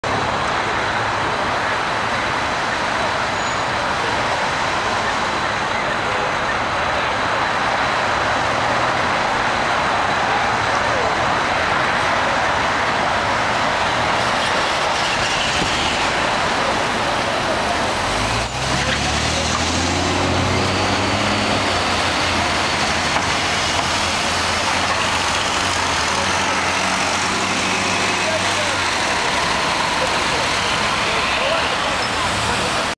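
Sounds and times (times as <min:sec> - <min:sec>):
cars driving past: 0:00.0 - 0:32.9
city traffic noise: 0:00.0 - 0:32.9.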